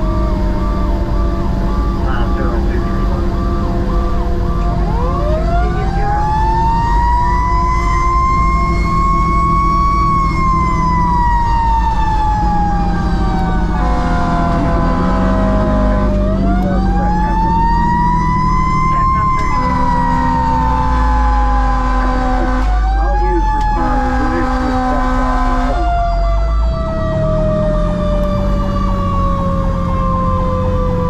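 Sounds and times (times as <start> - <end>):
fire engine siren wailing: 0.0 - 31.0
truck engine running: 0.0 - 31.0.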